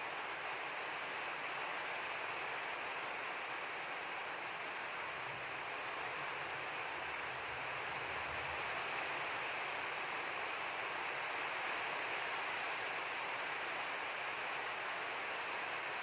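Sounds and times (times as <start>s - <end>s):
steady hiss of noise: 0.0s - 16.0s.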